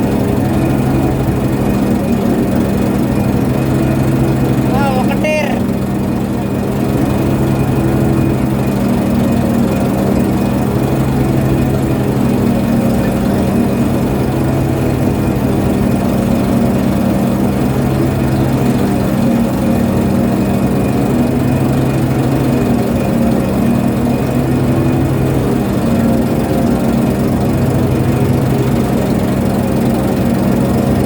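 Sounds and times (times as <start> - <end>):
ship diesel engine humming: 0.0 - 31.0.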